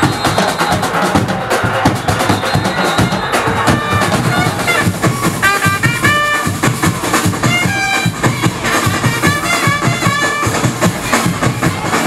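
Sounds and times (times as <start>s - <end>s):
street band drumming: 0.0s - 12.0s.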